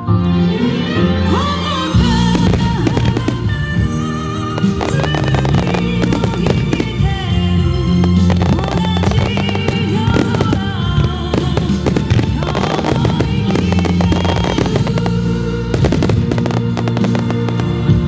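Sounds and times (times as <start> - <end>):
song with singing and guitar: 0.0 - 18.0
fireworks bursting and crackling: 2.0 - 18.0.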